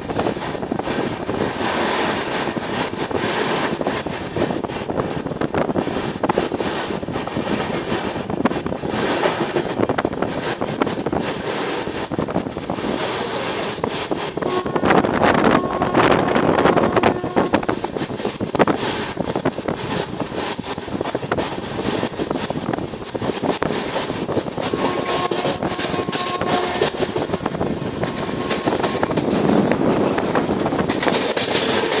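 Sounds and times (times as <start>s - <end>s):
rushing wind: 0.0s - 32.0s
train wheels rumbling: 0.0s - 32.0s.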